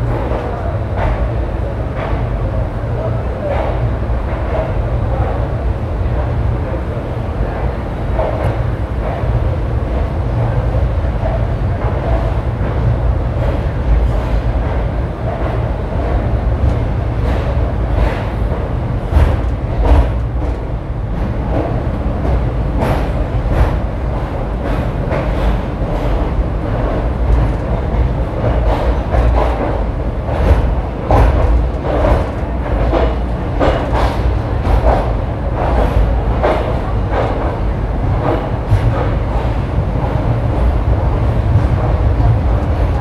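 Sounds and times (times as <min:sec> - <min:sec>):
train rumble: 0:00.0 - 0:43.0.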